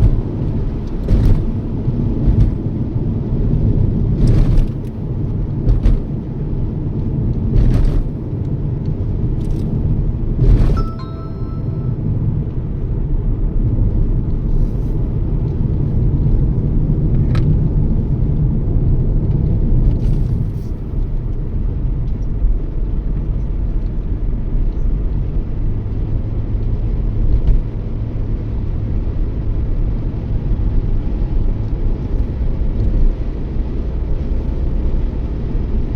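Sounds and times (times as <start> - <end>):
car road and engine rumble: 0.0 - 35.9.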